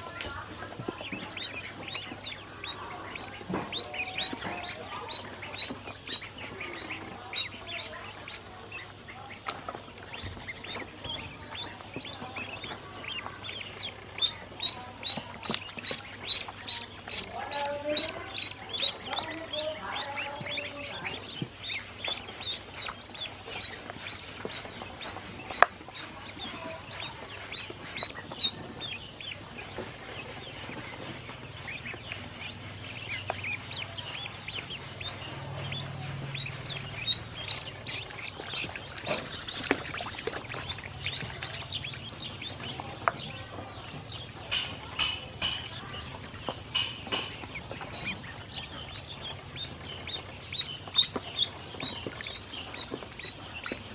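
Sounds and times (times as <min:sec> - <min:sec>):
ducklings peeping: 0:00.0 - 0:53.9.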